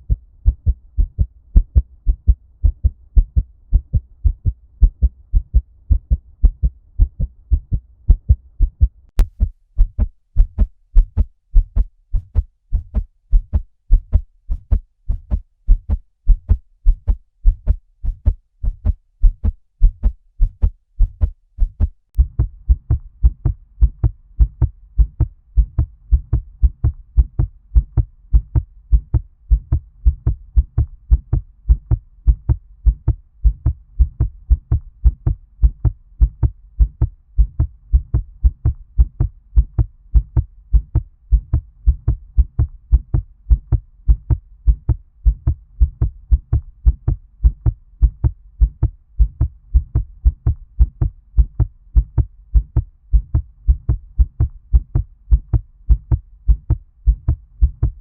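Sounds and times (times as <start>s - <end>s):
fast heartbeat thuds: 0.0s - 58.0s.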